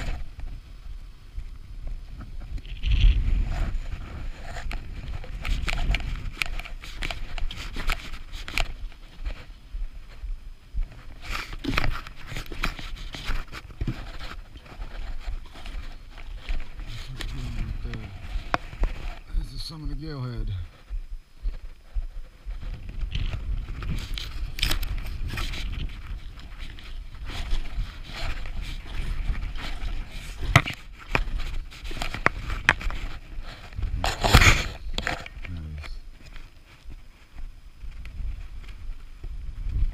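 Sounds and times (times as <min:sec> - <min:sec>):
low rumble on microphone: 0:00.0 - 0:39.9
footsteps crunching in snow: 0:01.8 - 0:39.9.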